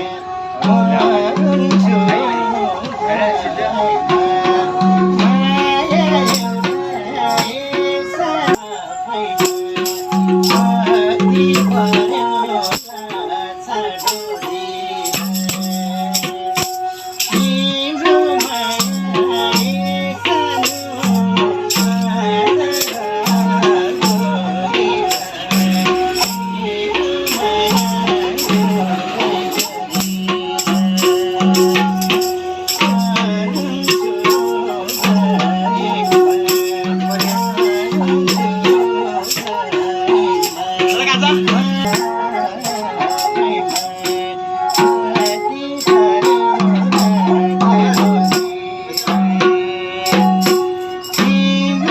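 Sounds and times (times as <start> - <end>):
hand drum rhythm: 0.0 - 3.0, 3.8 - 51.9
sarangi gliding melody: 0.0 - 51.9
percussion strikes: 3.8 - 51.9.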